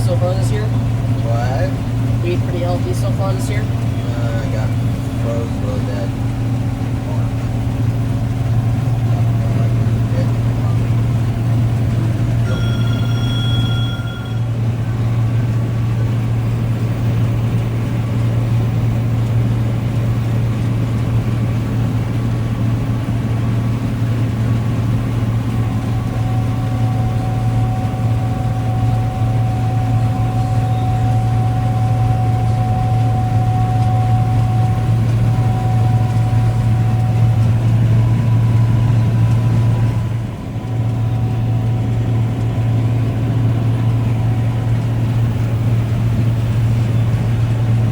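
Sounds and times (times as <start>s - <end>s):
faint whine: 0.0s - 19.3s, 23.6s - 47.9s
vehicle engine humming: 0.0s - 47.9s.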